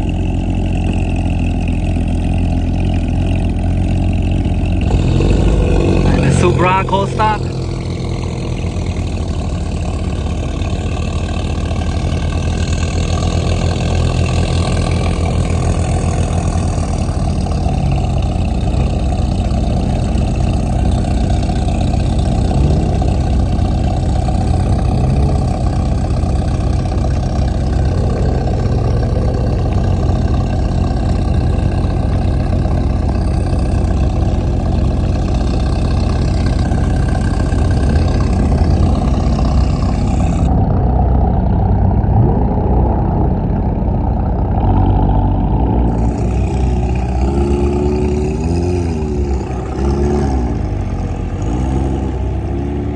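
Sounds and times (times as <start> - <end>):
car engine idling: 0.0 - 52.9.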